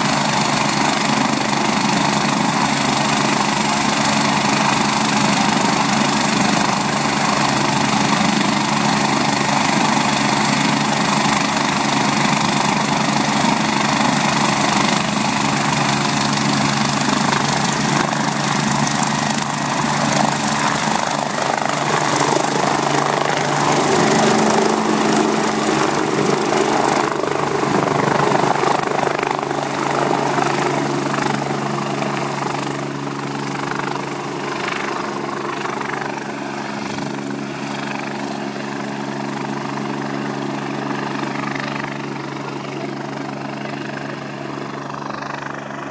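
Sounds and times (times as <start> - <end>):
helicopter turbine and rotor noise: 0.0 - 45.9.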